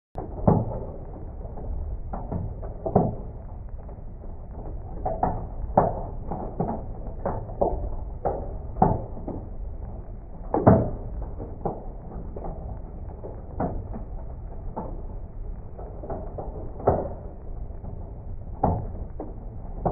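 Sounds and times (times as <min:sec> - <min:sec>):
low rumble of rain: 0:00.2 - 0:19.9
slowed hail knocking on window: 0:00.2 - 0:19.9.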